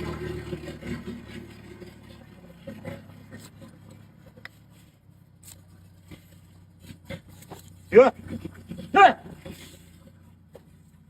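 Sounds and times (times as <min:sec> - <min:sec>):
low motor hum: 0:00.0 - 0:11.0
hoof knife scraping hoof: 0:00.5 - 0:11.0.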